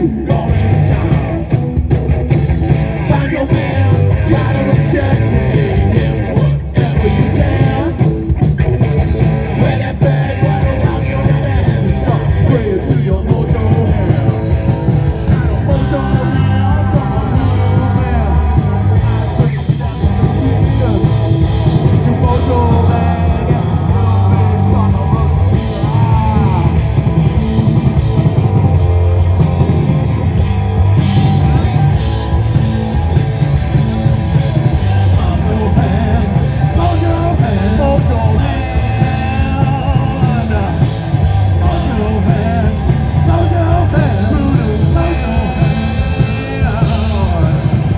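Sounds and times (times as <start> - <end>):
live metal band playing: 0.0 - 47.9.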